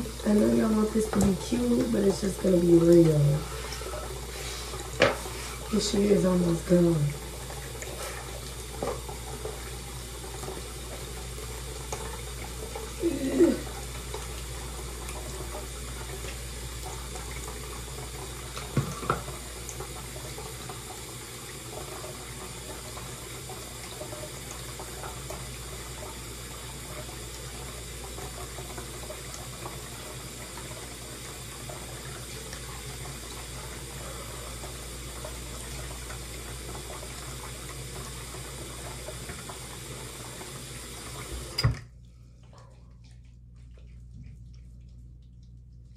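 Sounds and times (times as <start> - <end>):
tap water running into sink: 0.0 - 45.6.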